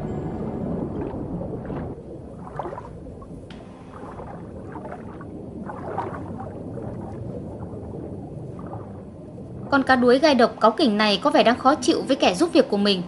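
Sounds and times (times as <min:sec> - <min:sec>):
muffled underwater rumble: 0:00.0 - 0:13.0
water swishes and gurgles: 0:00.0 - 0:13.0.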